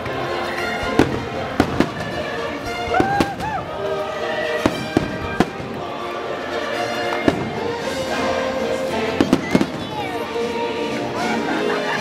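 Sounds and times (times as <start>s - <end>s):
fireworks bursting with bangs: 0.0s - 10.3s
music: 0.0s - 12.0s.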